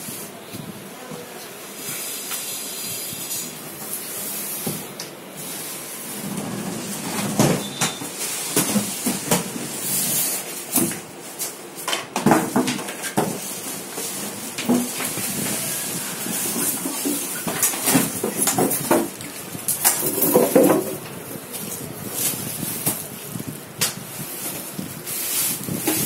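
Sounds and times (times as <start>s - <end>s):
foam and plastic wrap rustling: 1.7s - 26.0s.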